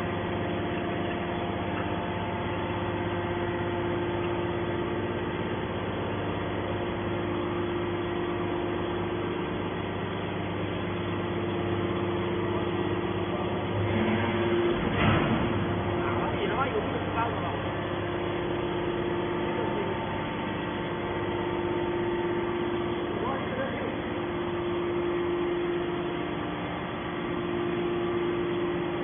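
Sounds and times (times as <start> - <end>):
hydraulic power unit humming: 0.0 - 29.0.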